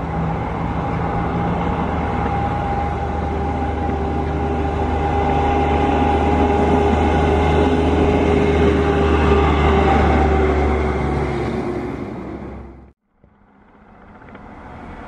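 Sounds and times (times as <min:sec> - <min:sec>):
jet engines whining and rumbling: 0:00.0 - 0:13.0.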